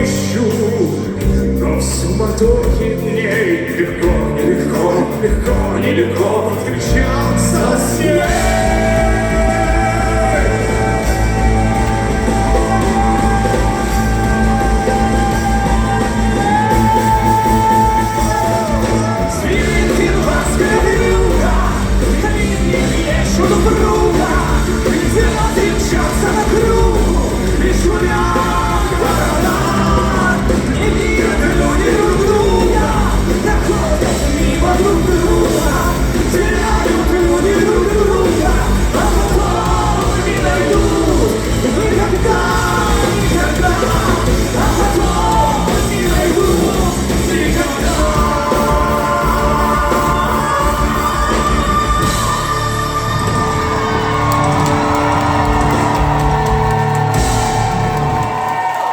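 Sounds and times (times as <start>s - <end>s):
people singing: 0.0s - 56.4s
live band music: 0.0s - 58.9s.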